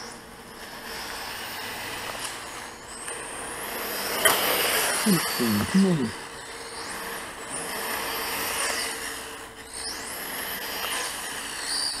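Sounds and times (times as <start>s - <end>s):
electric toy car motor whining: 0.0s - 12.0s.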